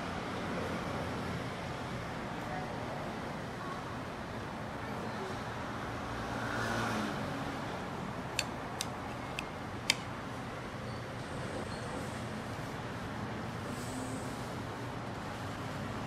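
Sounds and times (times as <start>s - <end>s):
traffic-like background noise: 0.0s - 16.0s.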